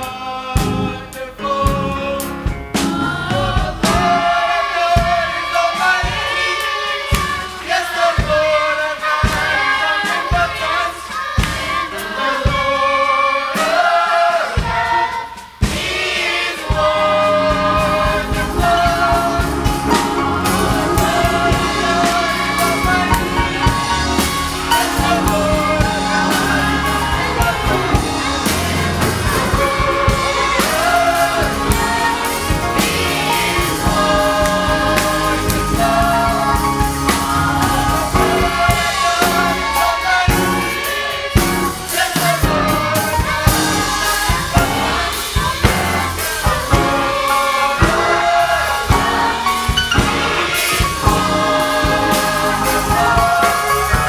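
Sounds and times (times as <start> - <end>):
youth choir singing gospel: 0.0 - 54.0
instrumental accompaniment: 0.6 - 54.0.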